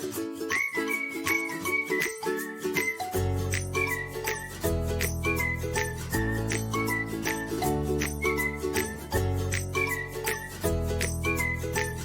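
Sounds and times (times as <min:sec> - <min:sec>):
light jingly tune with bass and beat: 0:00.0 - 0:12.0.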